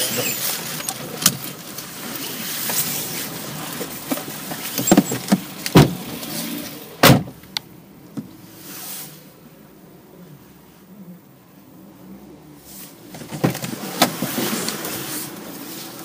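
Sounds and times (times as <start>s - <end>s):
car interior noise: 0.0s - 16.0s.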